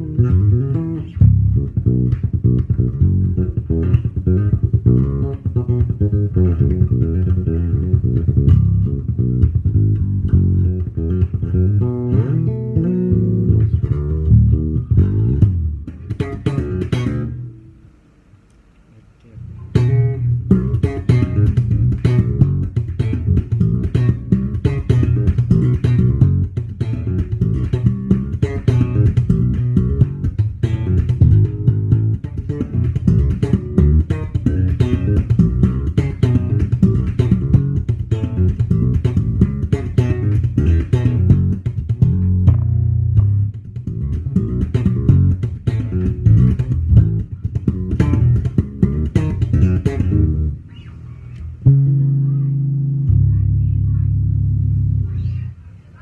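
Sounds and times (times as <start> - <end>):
electric bass guitar plucked: 0.0 - 18.0, 19.4 - 55.6.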